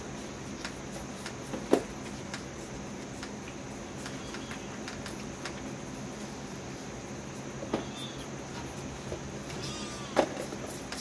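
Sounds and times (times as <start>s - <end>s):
fawns sucking and smacking: 0.0s - 11.0s.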